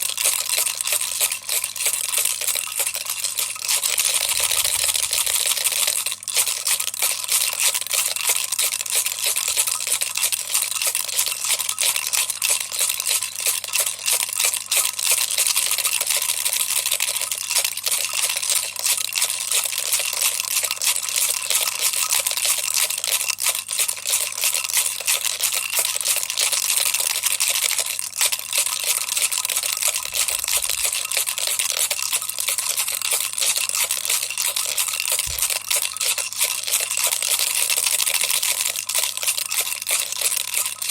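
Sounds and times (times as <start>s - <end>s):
toy rattle shaken: 0.0s - 40.9s.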